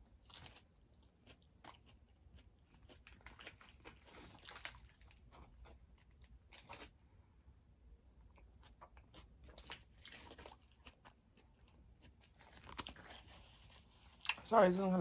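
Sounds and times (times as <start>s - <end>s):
close-up chewing with wet smacks: 0.2s - 6.9s, 8.3s - 14.4s.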